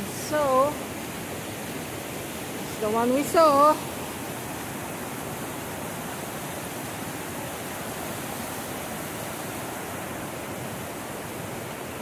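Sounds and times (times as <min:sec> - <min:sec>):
waterfall rushing over rock ledges: 0:00.0 - 0:12.0.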